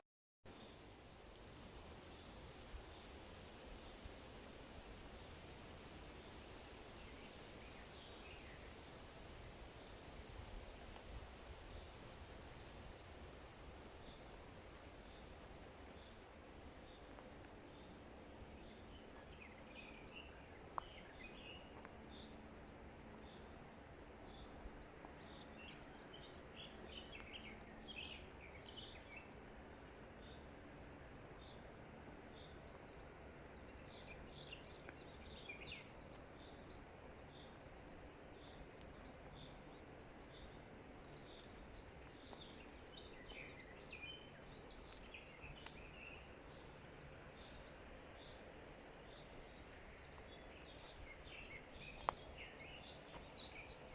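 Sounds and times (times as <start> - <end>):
low background hiss: 0.5 - 53.9
songbirds chirping: 0.5 - 53.9.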